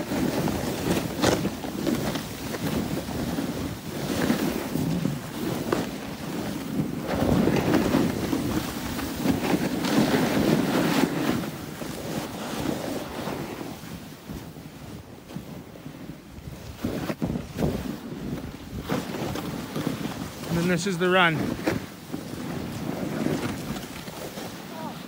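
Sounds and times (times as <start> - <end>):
snowboards sliding through snow: 0.0 - 25.0
wind buffeting microphone: 0.0 - 25.0.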